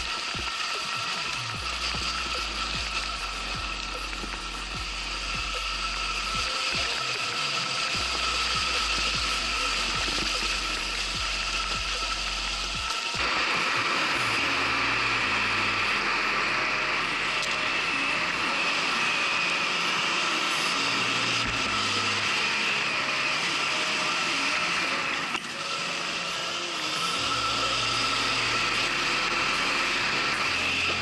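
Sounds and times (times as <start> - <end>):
electric motorcycle whine: 0.0 - 31.0.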